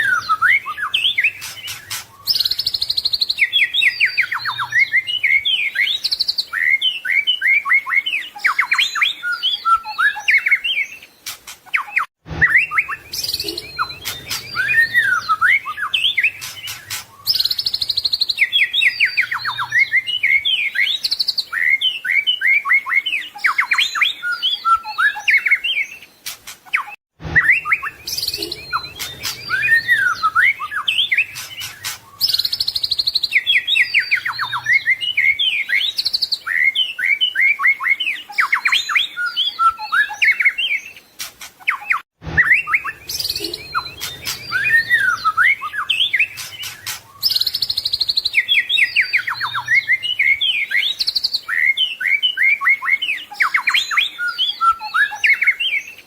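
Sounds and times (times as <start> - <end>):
songbird singing whistles and trills: 0.0 - 56.0.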